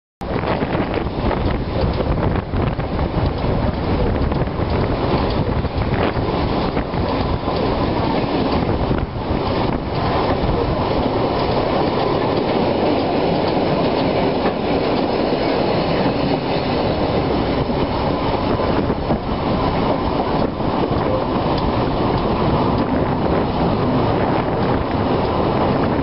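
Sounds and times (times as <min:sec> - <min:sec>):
train wheels running on rails: 0:00.2 - 0:26.0.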